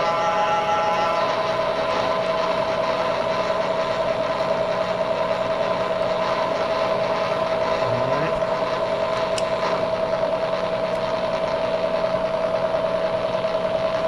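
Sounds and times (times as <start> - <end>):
milling machine whine: 0.0 - 14.0.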